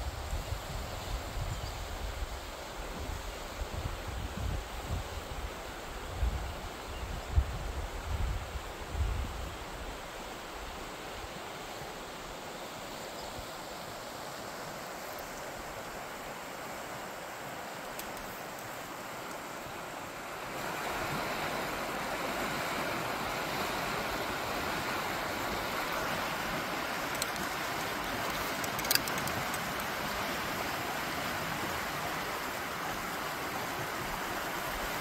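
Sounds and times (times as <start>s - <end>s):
mountain river rushing: 0.0s - 35.0s.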